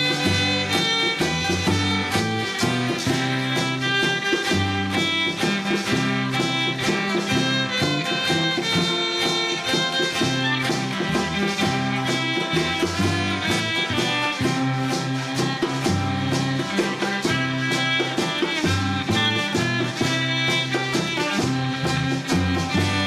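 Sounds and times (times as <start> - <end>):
drum beat: 0.0 - 23.0
fiddle melody: 0.0 - 23.0
maracas shaking: 0.0 - 23.0
strummed acoustic guitars: 0.0 - 23.0.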